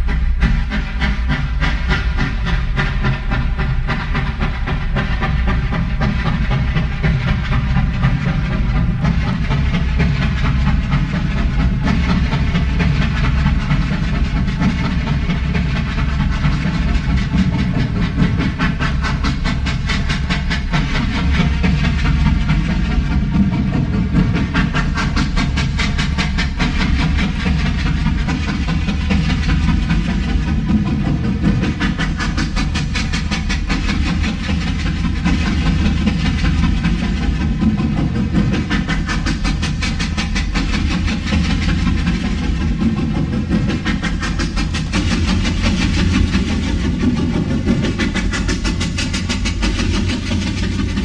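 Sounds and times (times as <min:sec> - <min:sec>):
steam train running: 0:00.0 - 0:51.0.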